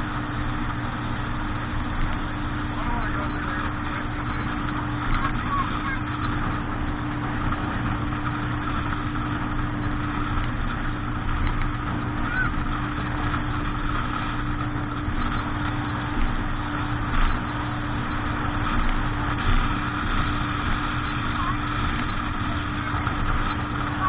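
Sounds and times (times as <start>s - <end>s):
motorboat engine droning: 0.0s - 24.0s
wind and water noise: 0.0s - 24.0s.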